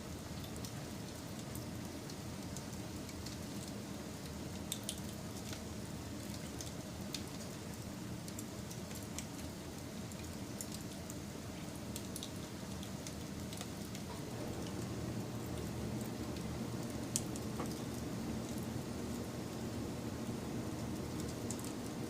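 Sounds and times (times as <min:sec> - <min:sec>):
wood fire crackling: 0:02.5 - 0:22.0.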